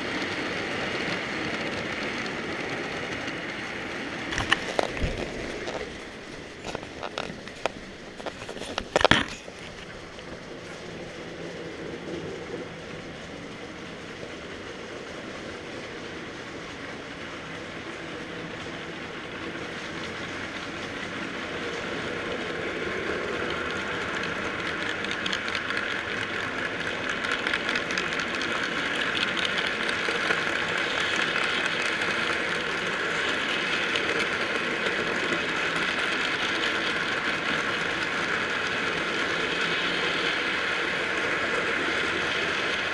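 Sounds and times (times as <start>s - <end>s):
model train rolling on rails: 0.0s - 42.9s.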